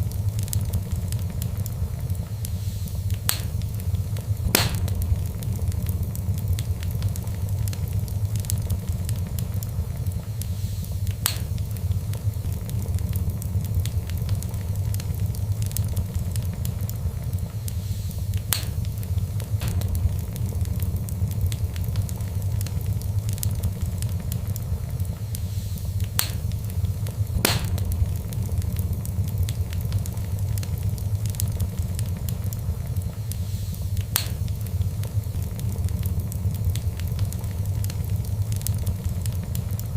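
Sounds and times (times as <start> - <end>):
fire crackling in fireplace: 0.0 - 39.9
sharp pops of fire: 0.0 - 39.9.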